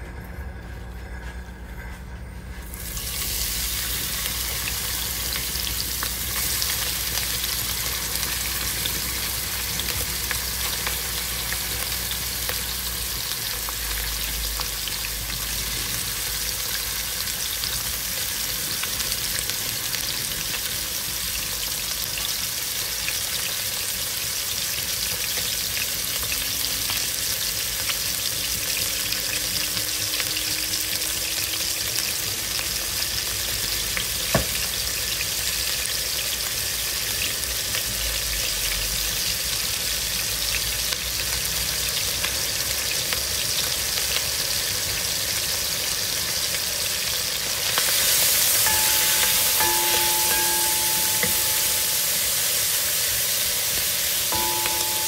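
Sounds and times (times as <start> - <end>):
chicken skin sizzling in oil: 2.6 - 55.0.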